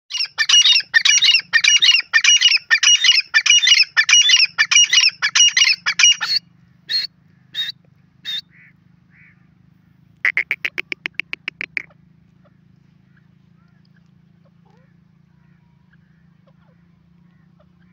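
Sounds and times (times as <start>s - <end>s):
francolin calling: 0.1s - 9.4s, 10.2s - 17.9s.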